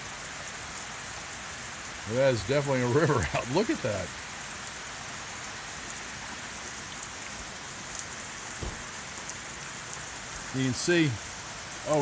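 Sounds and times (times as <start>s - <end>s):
rain hissing: 0.0s - 12.0s
raindrops ticking on surfaces: 0.0s - 12.0s.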